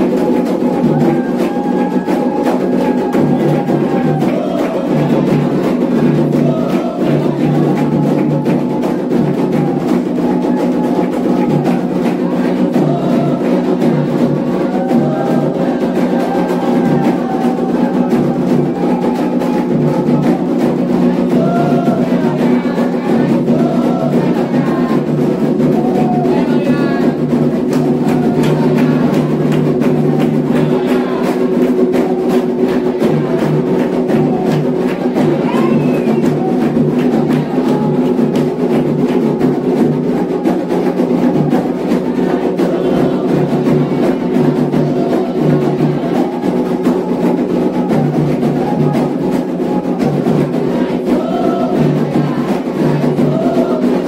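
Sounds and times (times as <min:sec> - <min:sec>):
hand drums: 0:00.0 - 0:54.0
voices chanting: 0:00.0 - 0:54.0.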